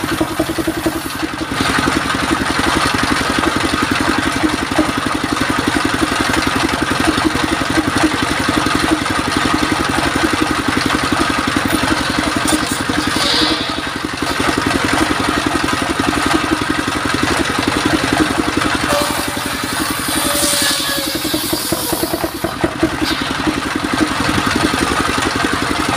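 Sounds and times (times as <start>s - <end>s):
stationary engine chugging: 0.0s - 25.9s.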